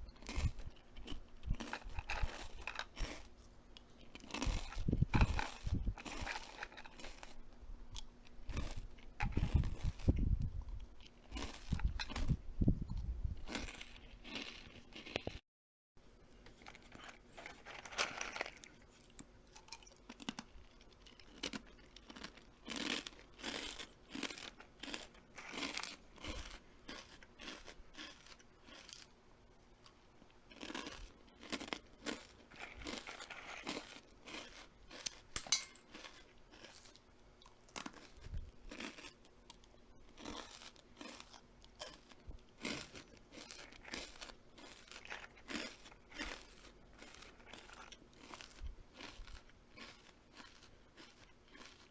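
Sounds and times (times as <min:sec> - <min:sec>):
crunching and chewing: 0:00.0 - 0:15.4, 0:16.3 - 0:51.9.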